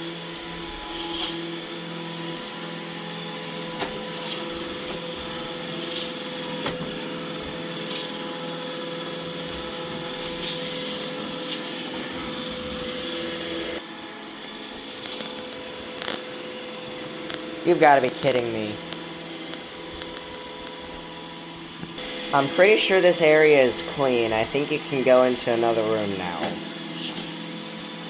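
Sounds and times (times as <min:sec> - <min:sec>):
robot vacuum motor whine: 0:00.0 - 0:28.0.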